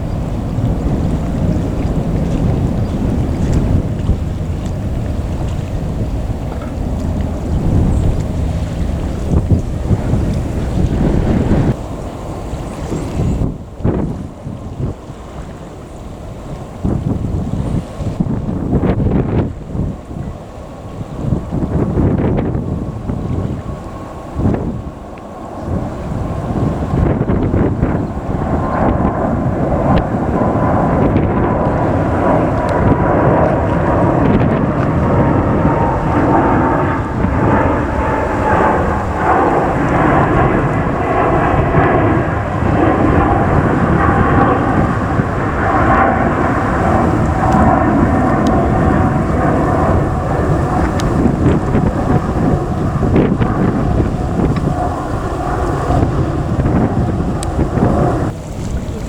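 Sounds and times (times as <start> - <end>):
jet engines rumbling: 0.0 - 59.0
wind buffeting microphone: 0.0 - 59.0.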